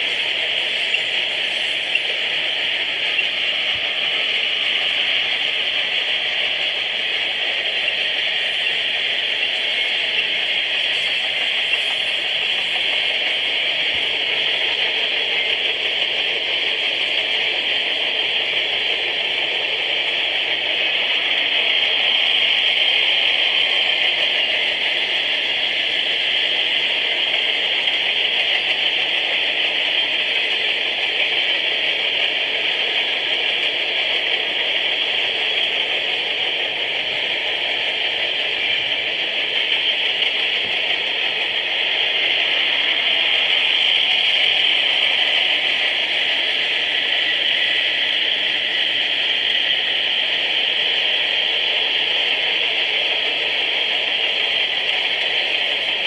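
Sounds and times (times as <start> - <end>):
train wheels rolling on rails: 0.0 - 56.0.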